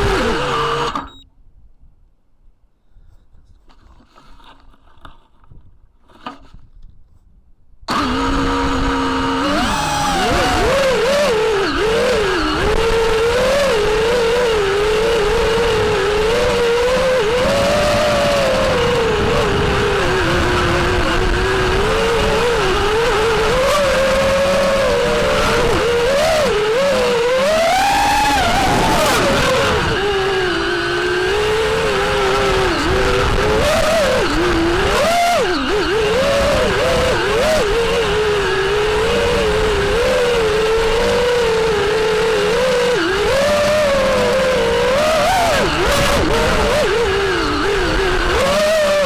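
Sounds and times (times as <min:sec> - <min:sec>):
drone motors whining: 0:00.0 - 0:01.2, 0:07.9 - 0:49.0.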